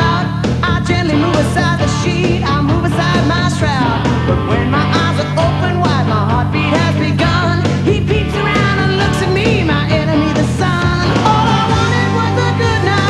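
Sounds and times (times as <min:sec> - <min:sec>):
pitch-bending guitar lead lines: 0:00.0 - 0:13.0
rock band playing: 0:00.0 - 0:13.0.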